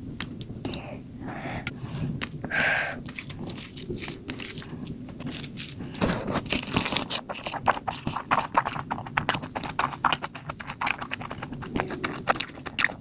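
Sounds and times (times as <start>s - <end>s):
fingers squeezing wet rice: 2.2s - 13.0s.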